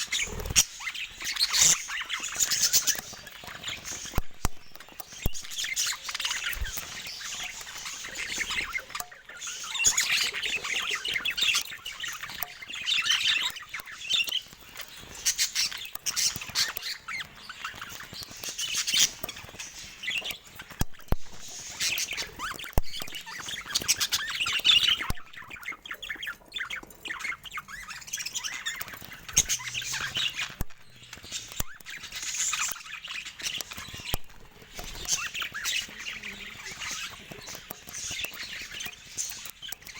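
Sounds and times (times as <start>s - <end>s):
budgerigars chattering: 0.0s - 39.9s
sharp clicks: 0.0s - 39.9s.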